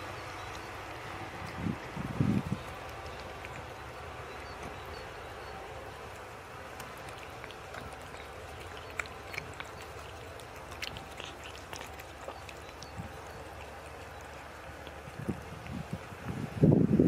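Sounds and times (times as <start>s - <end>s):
cats chewing and lapping: 0.0s - 17.0s
low background noise: 0.0s - 17.0s.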